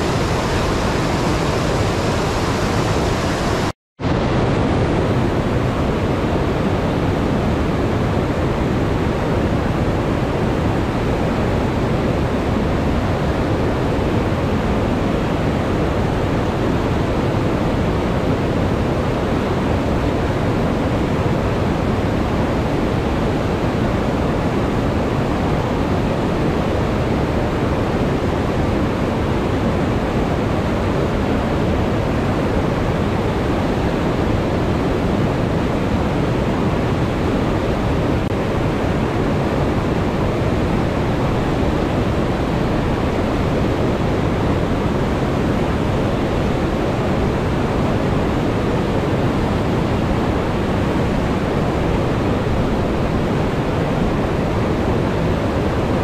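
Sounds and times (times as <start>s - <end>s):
river rushing over rapids: 0.0s - 56.0s.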